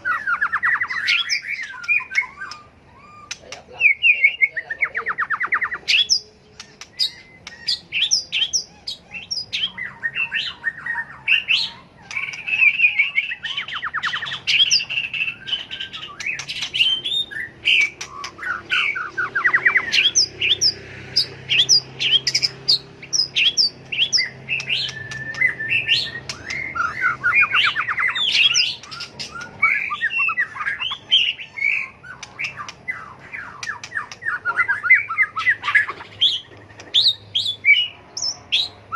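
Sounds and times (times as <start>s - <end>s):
bird singing whistled phrases: 0.0s - 20.8s, 21.5s - 38.9s.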